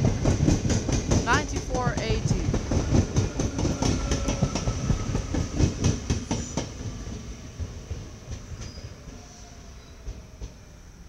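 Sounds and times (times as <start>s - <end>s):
train wheels clattering: 0.0s - 10.7s.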